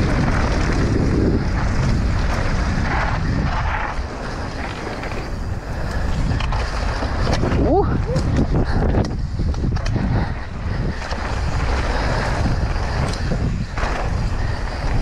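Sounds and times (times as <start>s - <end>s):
bike knocks and rattles: 0.0s - 15.0s
bike tyres on dirt: 0.0s - 15.0s
wind on microphone: 0.0s - 15.0s.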